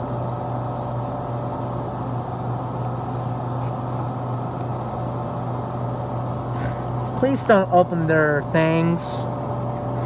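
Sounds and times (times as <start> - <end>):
fan air noise: 0.0 - 10.0
refrigeration unit humming: 0.0 - 10.0.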